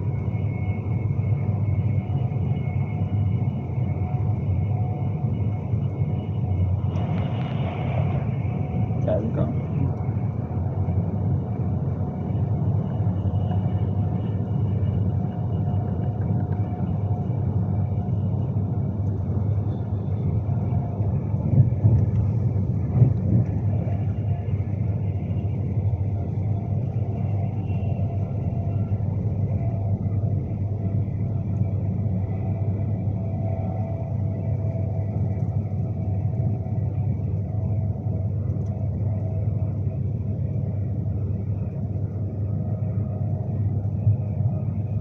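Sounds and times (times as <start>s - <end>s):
faint steady tones: 0.0s - 45.0s
train rumble inside carriage: 0.0s - 45.0s.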